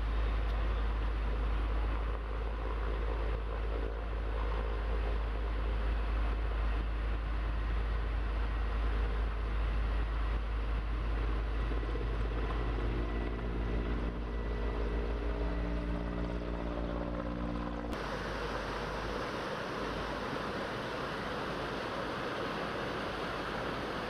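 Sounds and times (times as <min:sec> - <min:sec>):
low pulsing engine drone: 0:00.0 - 0:24.0
steady humming tone: 0:00.0 - 0:24.0.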